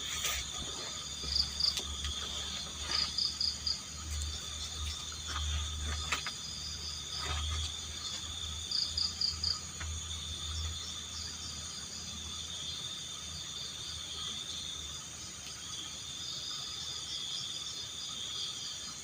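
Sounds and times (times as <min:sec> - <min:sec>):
crickets trilling: 0:00.0 - 0:19.0
loud cricket chirps: 0:00.0 - 0:19.0.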